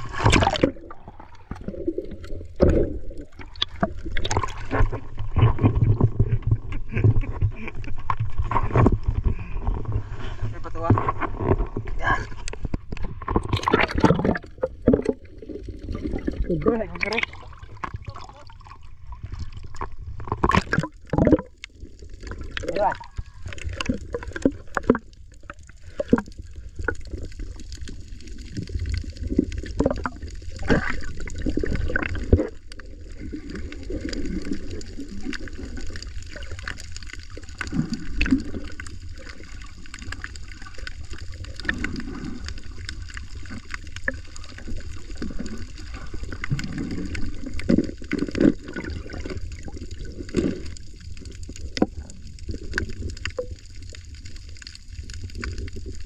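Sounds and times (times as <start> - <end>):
muffled underwater swirling: 0.0 - 56.0.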